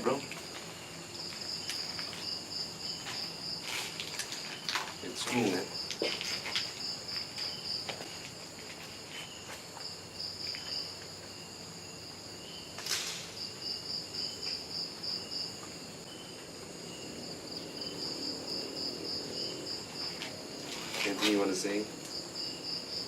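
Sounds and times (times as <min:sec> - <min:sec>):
crickets trilling: 0:00.0 - 0:23.0
faint insect chirp: 0:00.0 - 0:23.0.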